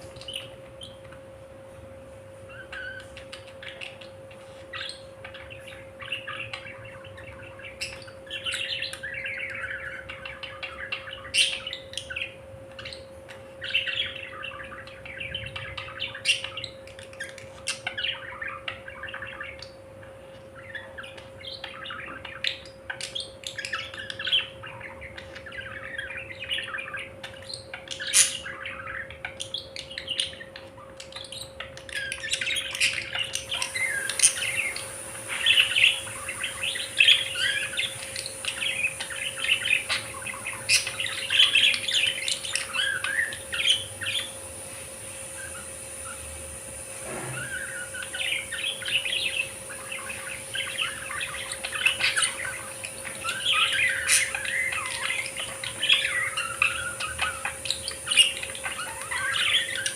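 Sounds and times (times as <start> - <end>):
budgerigars chattering and warbling: 0.0 - 1.6, 2.3 - 59.9
steady hum: 0.0 - 59.9.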